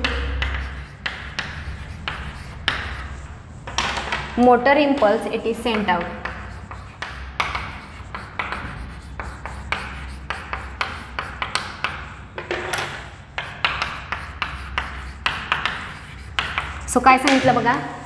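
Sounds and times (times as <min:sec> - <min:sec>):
chalk scratching on chalkboard: 0:00.0 - 0:03.4, 0:04.8 - 0:17.6
steady low hum: 0:00.0 - 0:18.0.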